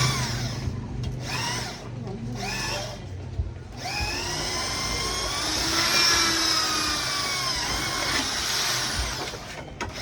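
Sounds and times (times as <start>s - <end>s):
power tool motor whining: 0.0s - 3.1s, 3.7s - 10.0s.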